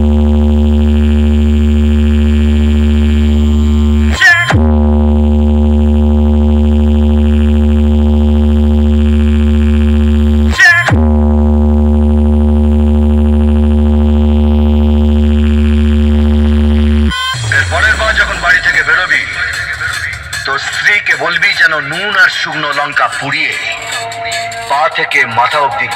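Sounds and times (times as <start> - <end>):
heavy bass synthesizer drone: 0.0 - 25.9.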